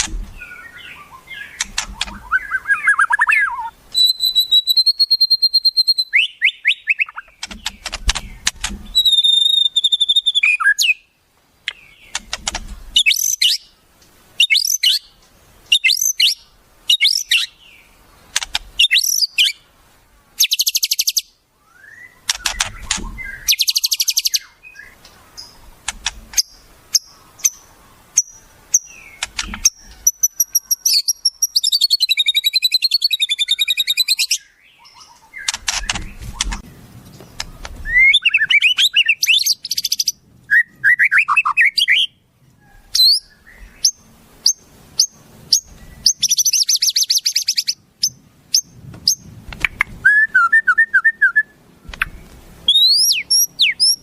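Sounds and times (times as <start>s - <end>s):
songbird calls: 0.0s - 54.0s.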